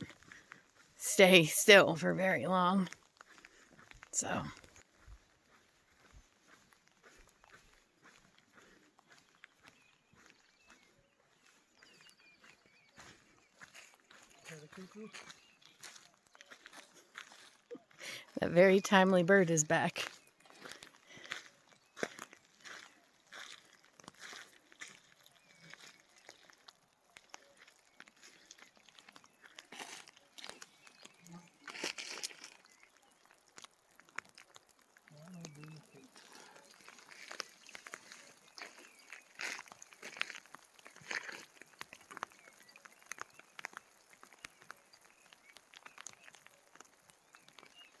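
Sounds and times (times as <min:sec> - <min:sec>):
footsteps through wet grass: 0:00.0 - 0:19.3, 0:20.0 - 0:48.0
faint birdsong chirps: 0:02.2 - 0:34.0, 0:35.0 - 0:48.0.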